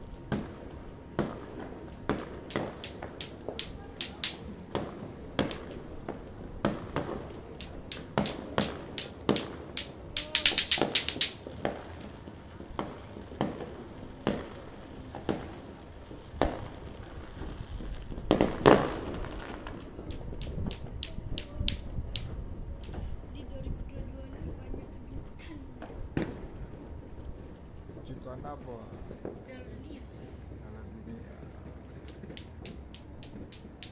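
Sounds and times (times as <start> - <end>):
cricket chirping: 0.0 - 33.9
firework crackling: 0.0 - 33.9
fireworks banging: 0.0 - 33.9.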